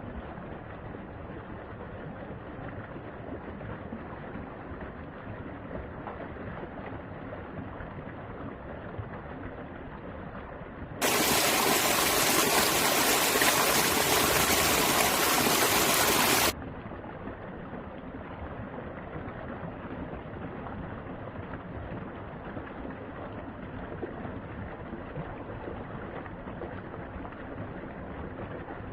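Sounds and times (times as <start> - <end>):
stream water flowing and splashing: 0.0 - 28.9.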